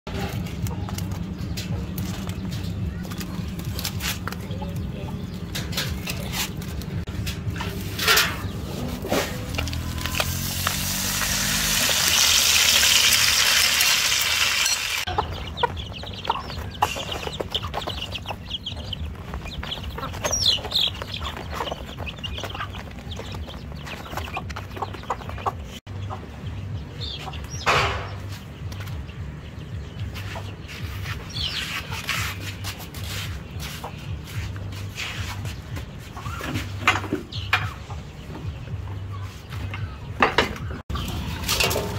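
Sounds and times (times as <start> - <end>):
chickens clucking and peeping: 0.1 - 41.9.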